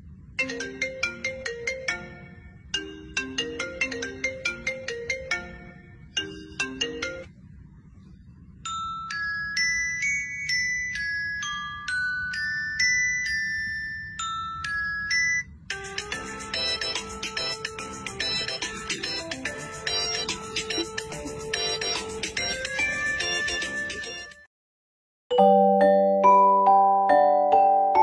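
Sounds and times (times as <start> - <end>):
busier ringtone tune: 0.4 - 7.3, 8.6 - 24.4, 25.3 - 28.0
chiming ringtone tune: 0.4 - 7.3, 8.6 - 24.3, 25.3 - 28.0
marimba-like ringtone tune: 0.4 - 7.3, 8.7 - 24.2, 25.3 - 28.0.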